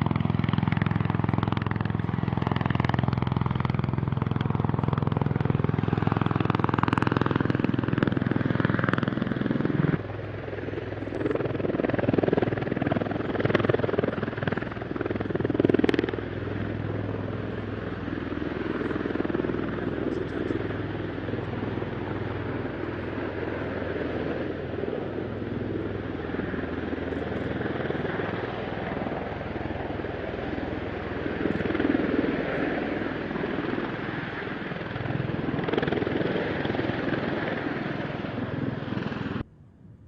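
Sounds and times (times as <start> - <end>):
aircraft rotors droning: 0.0 - 40.0.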